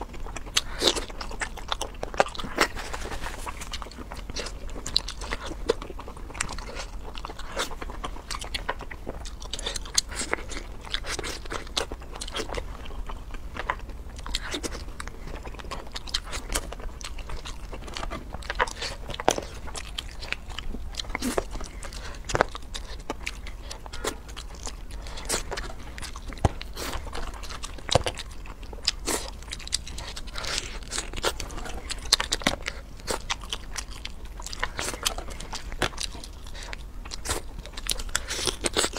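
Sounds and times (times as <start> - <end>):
biting and chewing: 0.0 - 38.9
shell crunching and cracking: 0.0 - 38.9.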